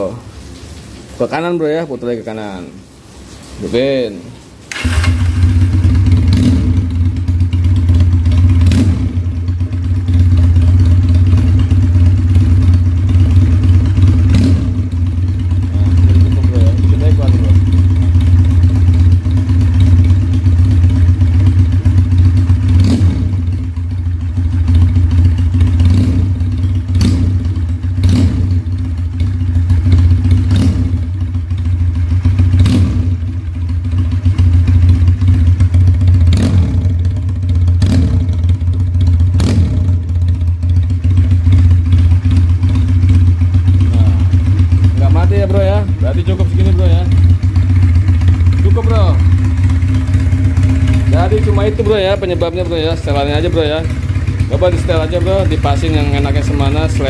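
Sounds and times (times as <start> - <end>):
motorcycle engine idling: 4.7 - 57.0.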